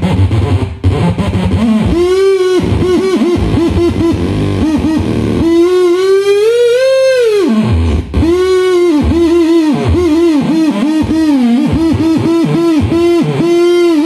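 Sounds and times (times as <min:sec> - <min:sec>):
buzzy wobbling electronic tone: 0:00.0 - 0:14.0.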